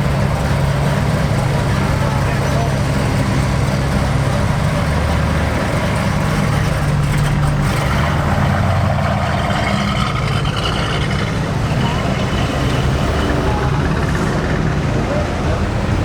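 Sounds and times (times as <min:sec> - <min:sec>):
car engine running low: 0:00.0 - 0:16.0.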